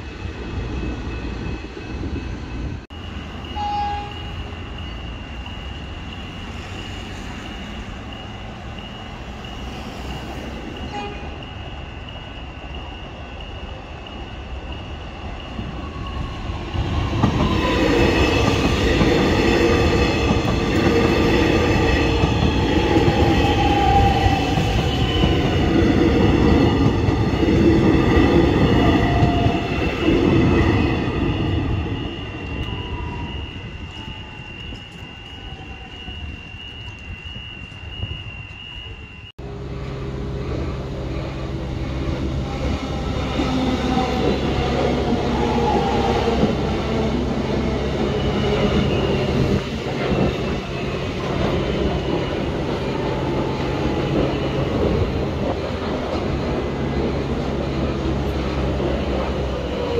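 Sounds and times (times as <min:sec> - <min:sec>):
electric train passing: 0:00.0 - 0:59.9
electrical hum of standing train: 0:00.0 - 0:59.9.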